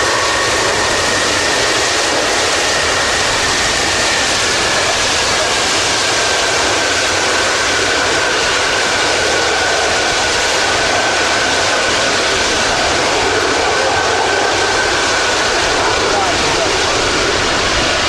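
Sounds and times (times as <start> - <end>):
high engine whine: 0.0 - 18.0
jet engines roaring: 0.0 - 18.0.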